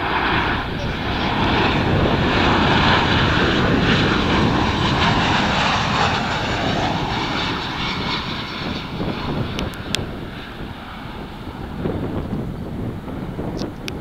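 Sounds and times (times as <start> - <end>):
jet engines rushing overhead: 0.0 - 14.0.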